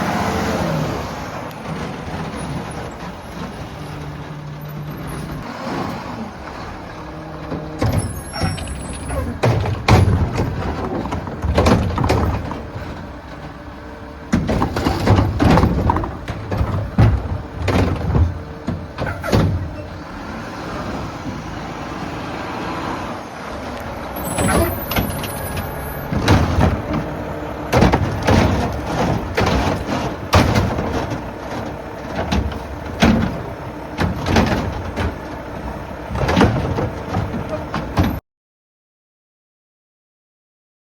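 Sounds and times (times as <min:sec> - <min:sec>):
garbage truck engine running: 0:00.0 - 0:38.2
bangs and clanks of bins: 0:01.1 - 0:21.7, 0:24.2 - 0:38.2.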